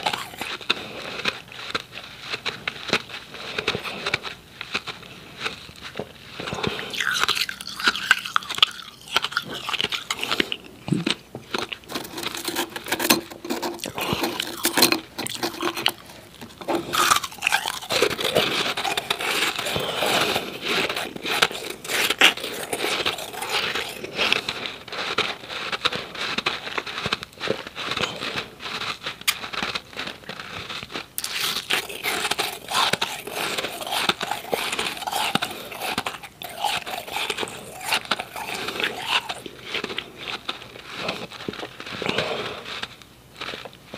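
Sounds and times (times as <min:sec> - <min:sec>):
chewing ice crunching: 0:00.0 - 0:43.9.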